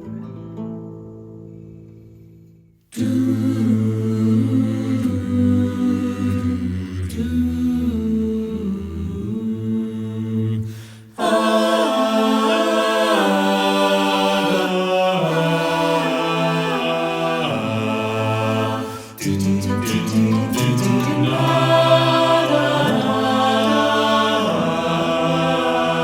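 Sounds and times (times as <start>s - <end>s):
chorus singing a cappella: 2.9s - 26.0s.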